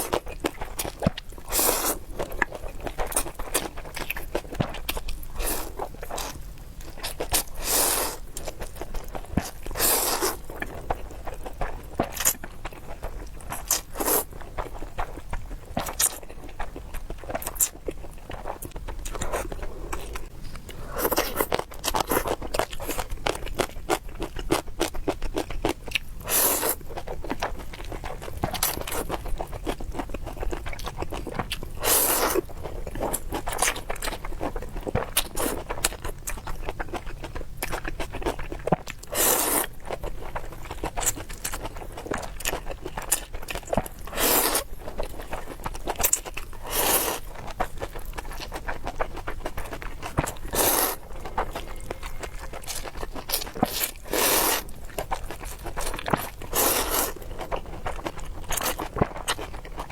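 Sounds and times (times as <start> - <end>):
chewing with wet mouth clicks: 0.0 - 59.9.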